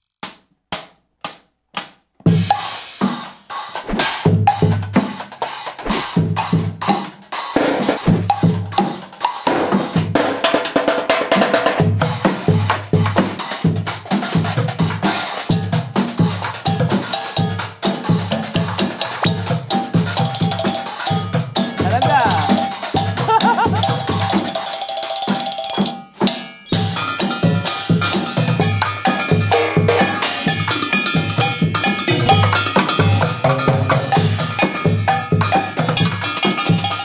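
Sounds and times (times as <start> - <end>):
junk percussion band playing: 2.3 - 37.0.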